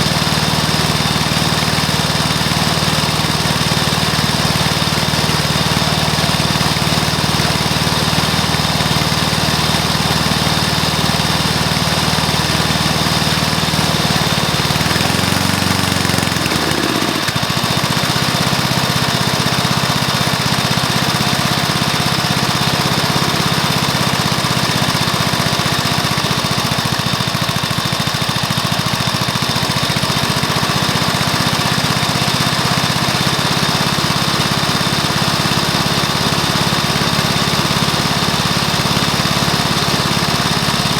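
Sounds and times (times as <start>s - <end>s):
lawnmower engine running: 0.0s - 40.9s.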